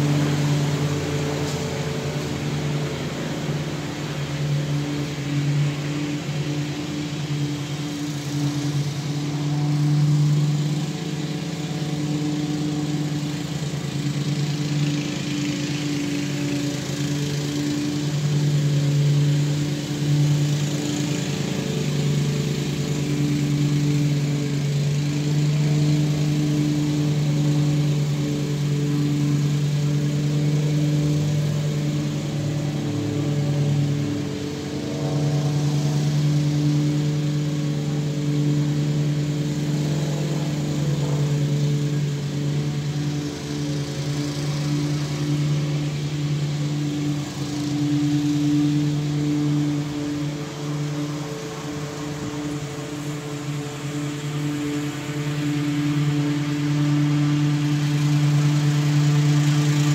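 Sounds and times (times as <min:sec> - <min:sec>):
small engine running steadily: 0:00.0 - 0:59.9.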